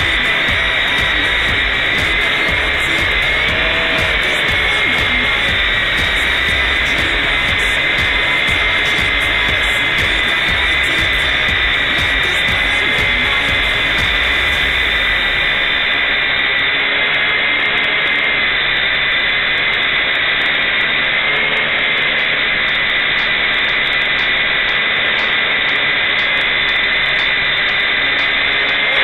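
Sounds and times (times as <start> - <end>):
quadcopter motors whining: 0.0 - 29.0.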